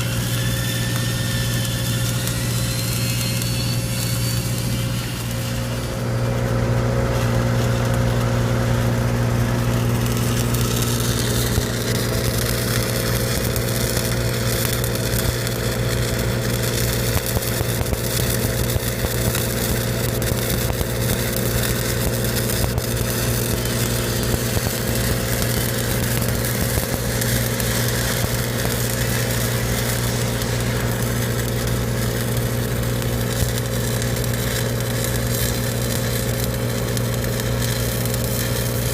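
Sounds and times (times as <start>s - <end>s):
welding arc crackling: 0.0s - 38.9s
welding machine engine drone: 0.0s - 38.9s.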